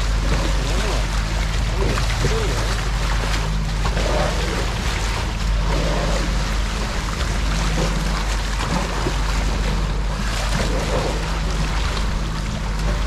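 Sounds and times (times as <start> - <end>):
steady low rumble: 0.0 - 13.0
water splashing at boat bow: 0.0 - 13.0.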